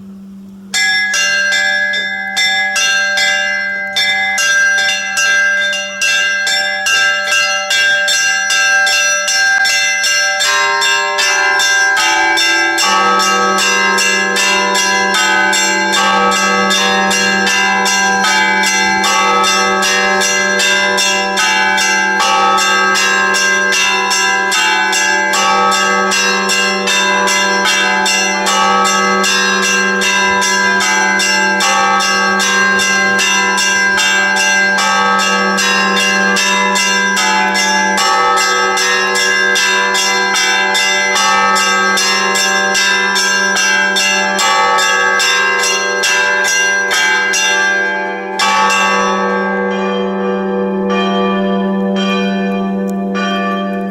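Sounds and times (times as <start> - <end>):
church bells ringing: 0.0 - 53.9.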